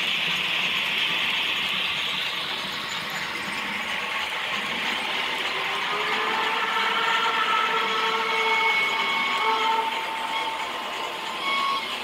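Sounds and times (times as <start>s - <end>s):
model train motors whining: 0.0s - 12.0s
wheels rattling on track: 0.0s - 12.0s.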